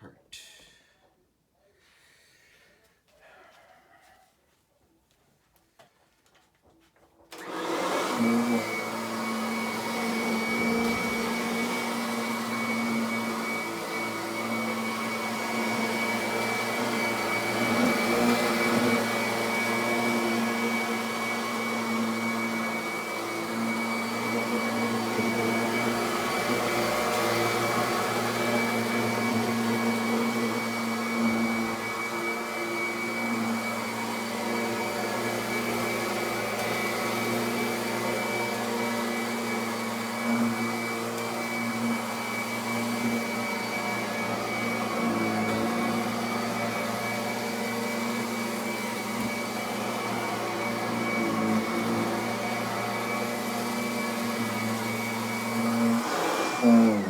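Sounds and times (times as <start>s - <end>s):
vacuum cleaner on carpet: 7.3s - 57.0s.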